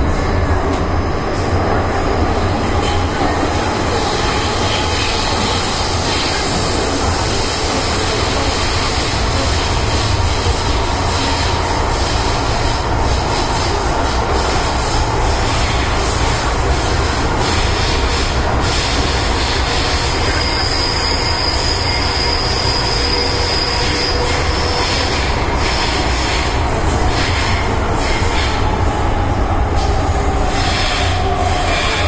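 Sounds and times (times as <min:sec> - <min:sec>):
subway car rumbling in tunnel: 0:00.0 - 0:32.0.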